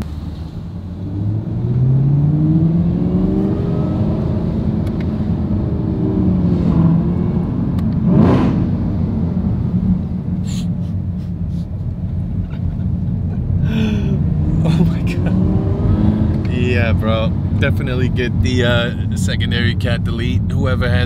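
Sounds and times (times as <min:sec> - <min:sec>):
car engine accelerating hard: 0:00.0 - 0:10.4, 0:12.0 - 0:21.0.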